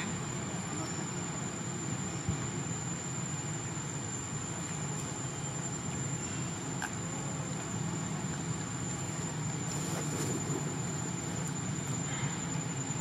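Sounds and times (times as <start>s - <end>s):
high-pitched insect drone: 0.0s - 13.0s
low rumbling noise: 0.0s - 13.0s.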